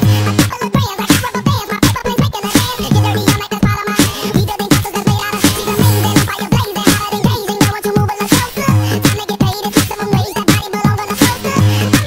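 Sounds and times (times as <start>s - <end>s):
driving drum beat: 0.0s - 12.0s
electronic dance music: 0.0s - 12.0s.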